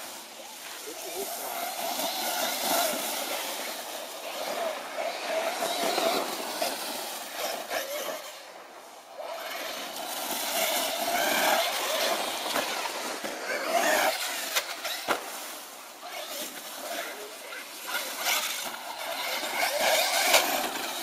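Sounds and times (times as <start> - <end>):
tyres churning through leaves: 0.0 - 21.0
toy truck motor revving: 0.1 - 21.0.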